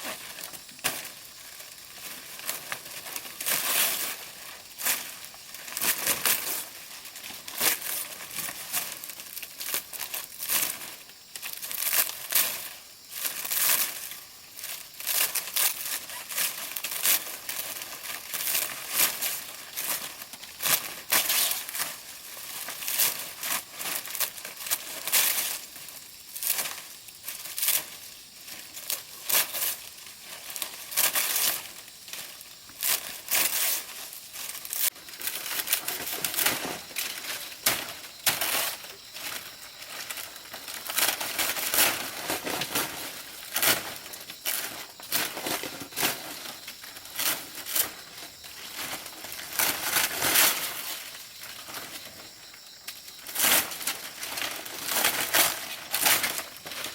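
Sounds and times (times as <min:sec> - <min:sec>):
dry leaves rustling and crackling: 0:00.0 - 0:56.9.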